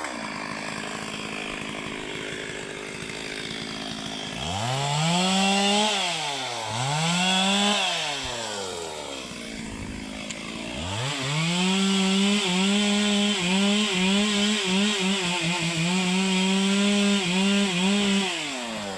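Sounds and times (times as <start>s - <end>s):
chainsaw revving and cutting wood: 0.0s - 18.9s.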